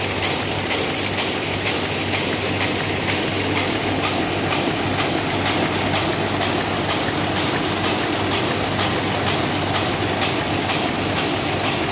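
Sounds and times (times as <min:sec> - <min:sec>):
machine clattering rhythmically: 0:00.0 - 0:11.9.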